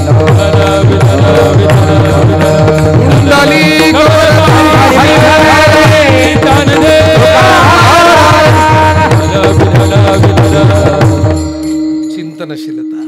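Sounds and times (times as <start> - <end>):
man singing melodic refrain: 0.0 - 11.6
hand drum beats: 0.0 - 12.1.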